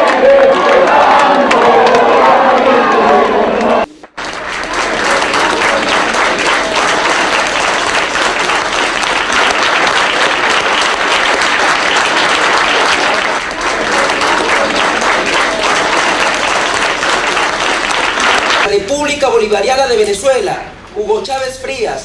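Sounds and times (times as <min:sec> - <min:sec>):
crowd applauding: 0:00.0 - 0:18.7.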